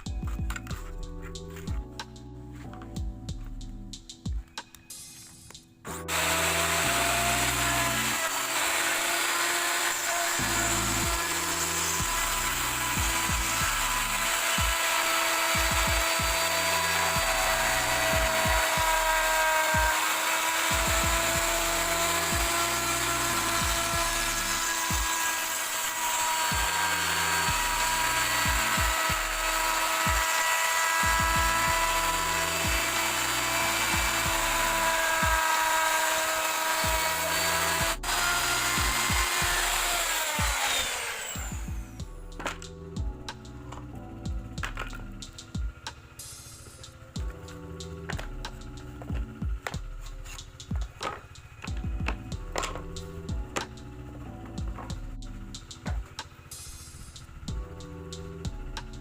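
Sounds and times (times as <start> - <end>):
background music with a beat: 0.0 - 8.1, 10.0 - 25.3, 26.0 - 59.0
power tool motor whining: 5.9 - 58.6.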